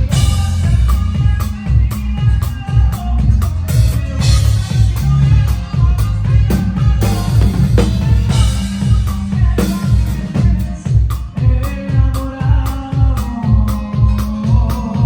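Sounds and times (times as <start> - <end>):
band playing instrumental music: 0.0 - 15.0
drum kit beat: 0.0 - 15.0.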